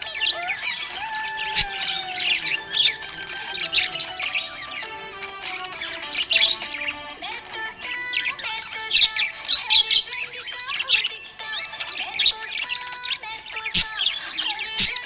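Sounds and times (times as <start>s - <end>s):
parrots chirping and chattering: 0.0s - 15.0s.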